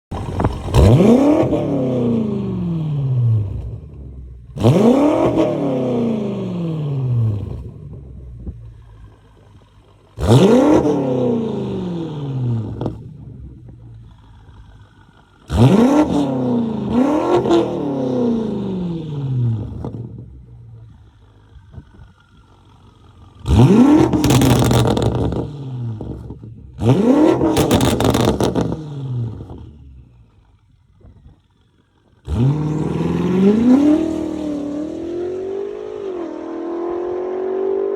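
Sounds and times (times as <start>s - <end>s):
exhaust crackles: 0.1s - 36.1s
car engine revving: 0.1s - 37.9s.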